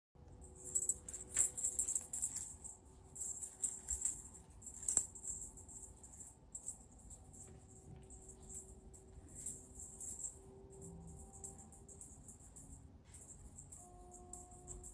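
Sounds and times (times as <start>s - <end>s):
jingling toy rattling: 0.4s - 14.9s.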